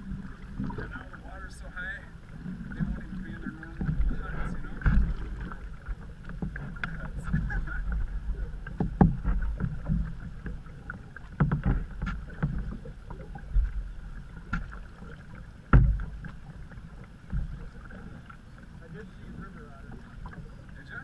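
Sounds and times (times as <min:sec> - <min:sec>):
canoe paddles stroking water: 0:00.0 - 0:21.0
paddle knocks and splashes: 0:00.0 - 0:21.0.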